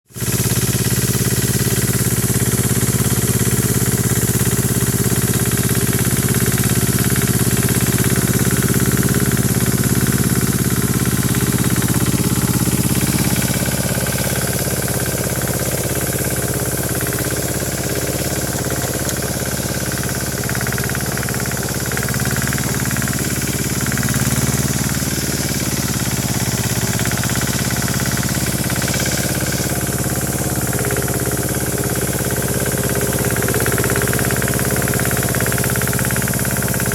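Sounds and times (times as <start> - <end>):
tiller engine running: 0.1 - 36.9.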